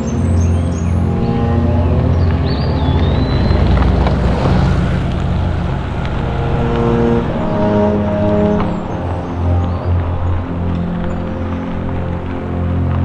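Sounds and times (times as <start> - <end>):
background music of held notes: 0.0 - 13.0
vehicle driving on gravel: 0.0 - 13.0.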